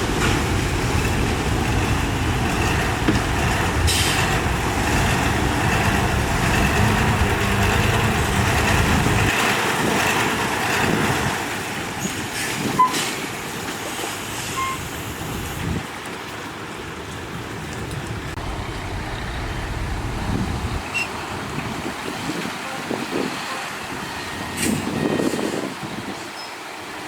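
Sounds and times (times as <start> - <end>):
dump truck engine rumbling: 0.0 - 27.0.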